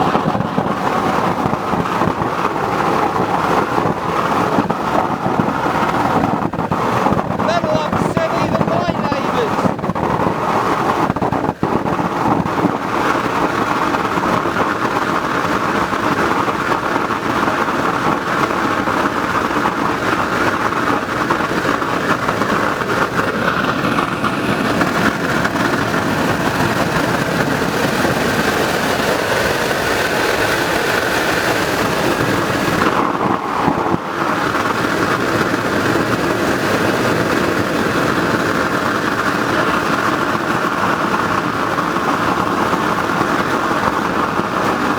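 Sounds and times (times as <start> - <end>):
oil burner roaring with blower: 0.0 - 44.9.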